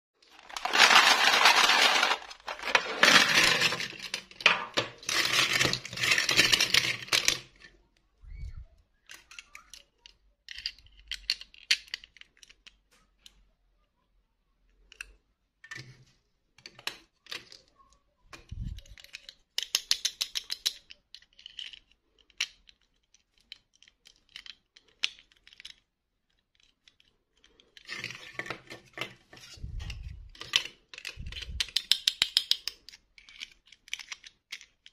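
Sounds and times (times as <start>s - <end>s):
plastic toys clattering: 0.2s - 8.4s, 9.0s - 13.4s, 14.7s - 34.9s.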